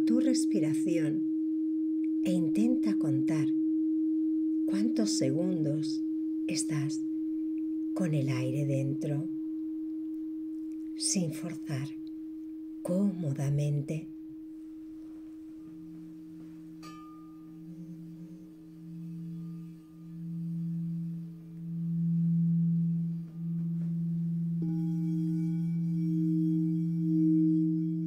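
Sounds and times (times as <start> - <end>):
singing bowl deep tone: 0.0 - 28.0
singing bowl high tone: 0.0 - 28.0.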